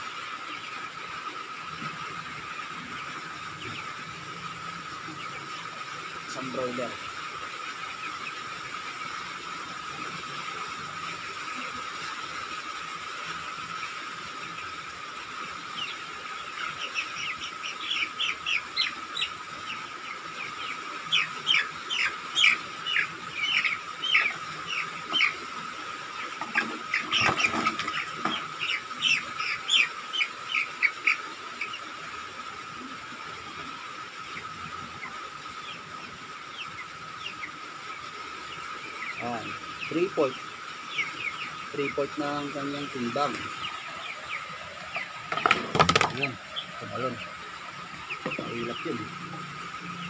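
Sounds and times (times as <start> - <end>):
chick peeping: 0.0 - 50.0.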